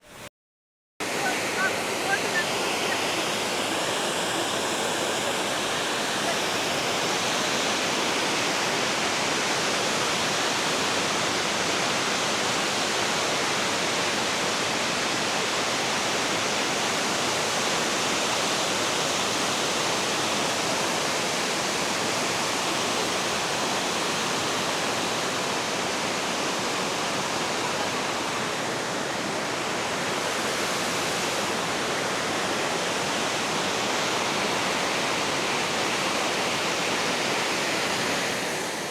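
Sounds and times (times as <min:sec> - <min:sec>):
waterfall rushing: 0:01.0 - 0:38.9.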